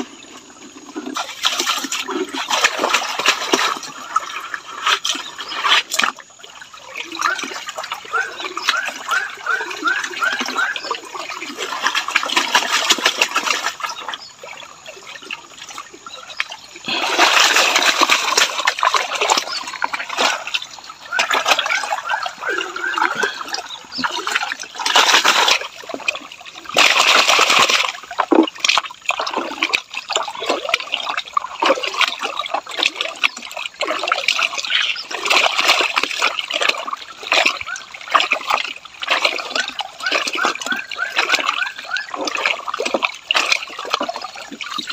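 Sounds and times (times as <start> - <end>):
rushes of water: 0.0 - 44.9
water sloshing in plastic pan: 0.0 - 44.9.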